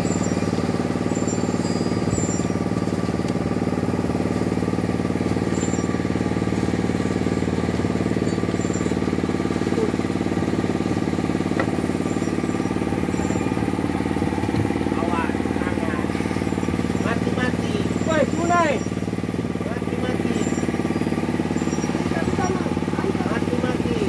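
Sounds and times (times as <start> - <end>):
small engine droning: 0.0 - 24.0.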